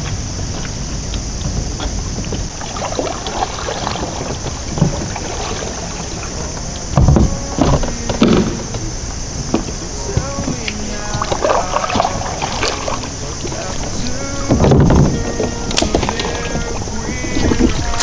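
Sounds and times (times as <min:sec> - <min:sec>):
thumps: 0:00.0 - 0:18.0
wind rumbling on microphone: 0:00.0 - 0:18.0.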